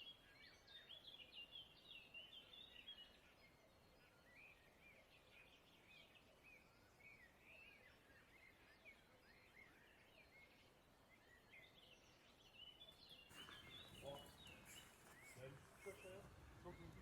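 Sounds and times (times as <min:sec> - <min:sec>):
faint birdsong chirping: 0:00.0 - 0:17.0.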